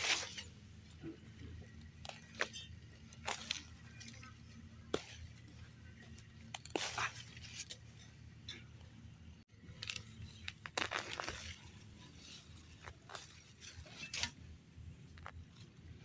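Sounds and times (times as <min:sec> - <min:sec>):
crunching and rustling plants: 0:00.0 - 0:16.0.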